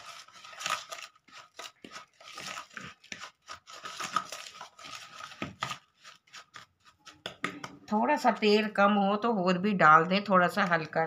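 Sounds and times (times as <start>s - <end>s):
hand mixing gritty spice paste: 0.0s - 11.0s.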